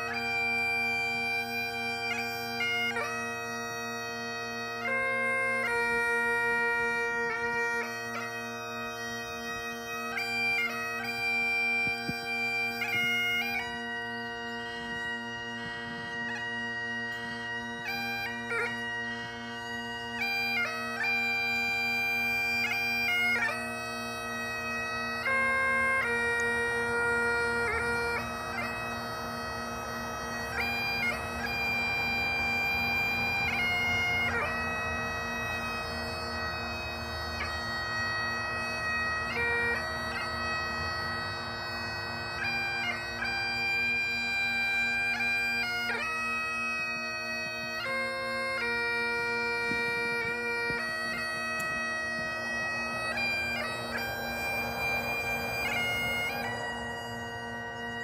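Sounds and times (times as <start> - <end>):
bagpipe drone: 0.0 - 58.0
bagpipe melody: 0.0 - 58.0.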